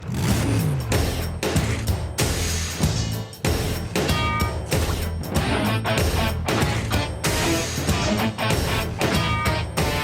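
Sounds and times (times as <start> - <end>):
theme music with strong beat: 0.0 - 10.0.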